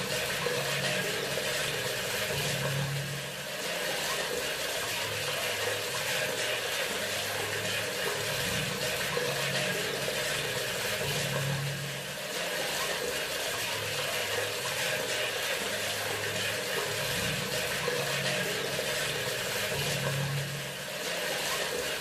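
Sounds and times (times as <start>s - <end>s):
water splashing into sink: 0.0s - 22.0s.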